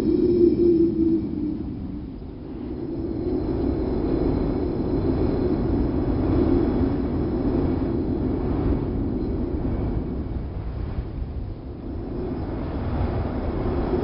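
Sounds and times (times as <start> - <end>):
wind rushing: 0.0 - 14.0.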